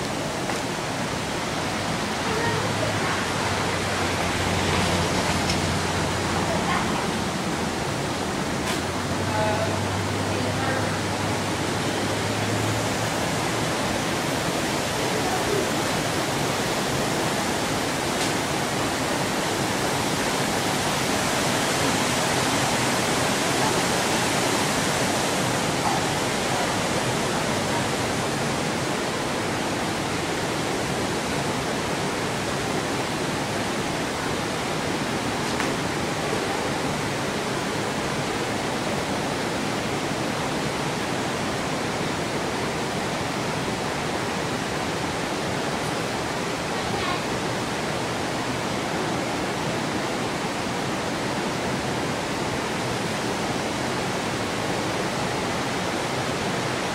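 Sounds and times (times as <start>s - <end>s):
creek water rushing over rocks: 0.0s - 56.9s.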